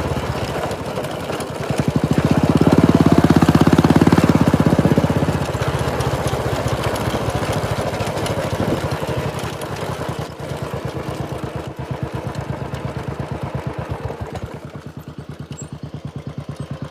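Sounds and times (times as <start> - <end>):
motorcycle engine thumping: 0.0 - 16.9.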